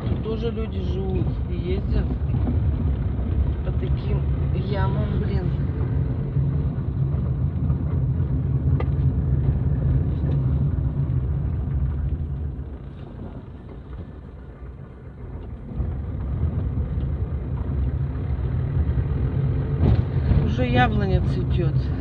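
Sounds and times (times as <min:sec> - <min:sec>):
car driving over rough dirt road: 0:00.0 - 0:22.0.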